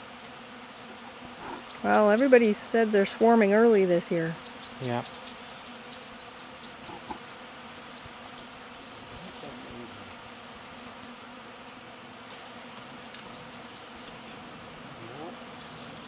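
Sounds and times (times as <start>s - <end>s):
bee swarm buzzing: 0.0s - 16.0s
single bees droning close: 0.0s - 16.0s.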